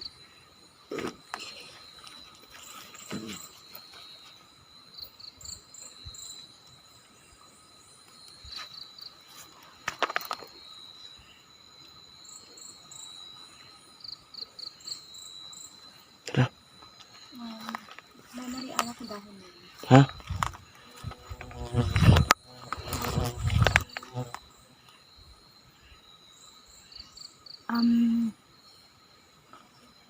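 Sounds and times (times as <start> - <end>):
crickets trilling: 0.0 - 30.0
quick insect chirps: 0.0 - 30.0.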